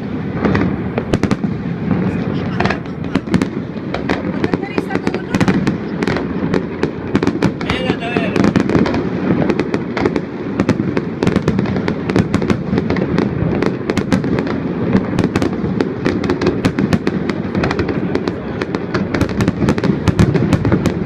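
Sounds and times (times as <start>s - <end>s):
fireworks bangs and crackling: 0.0s - 21.0s
low rumble of fireworks: 0.0s - 21.0s.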